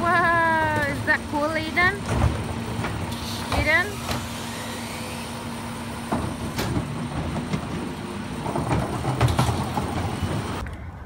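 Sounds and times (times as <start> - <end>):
wheeled trash bins rattling: 0.0 - 4.4, 5.3 - 10.6
garbage truck engine running: 0.0 - 10.6.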